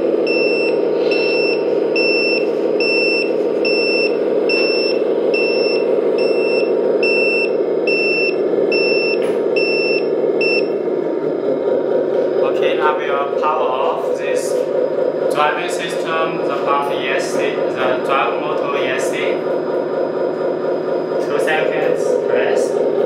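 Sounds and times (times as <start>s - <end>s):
diesel truck engine sound: 0.0s - 23.0s
reversing beeper: 0.1s - 10.8s, 12.4s - 20.4s.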